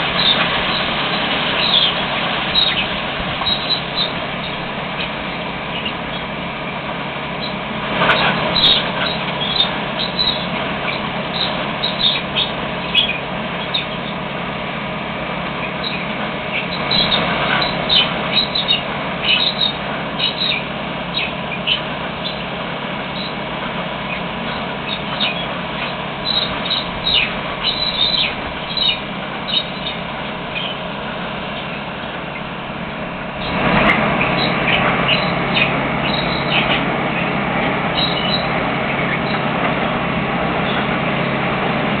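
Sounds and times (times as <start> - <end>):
machinery droning and whining: 0.0 - 42.0.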